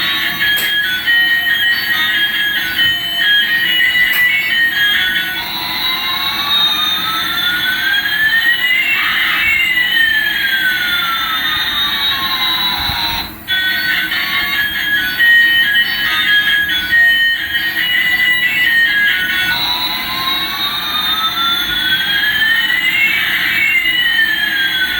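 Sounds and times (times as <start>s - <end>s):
steady beeping tones: 0.0s - 24.9s.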